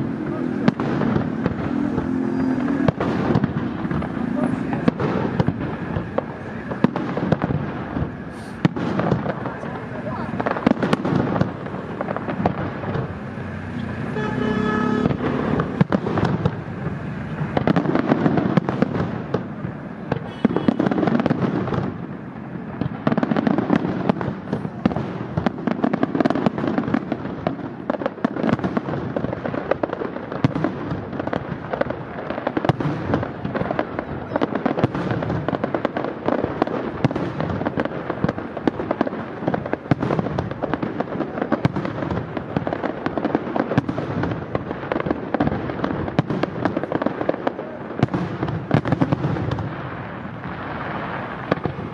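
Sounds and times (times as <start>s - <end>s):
fireworks bursts and crackling: 0.0s - 51.9s.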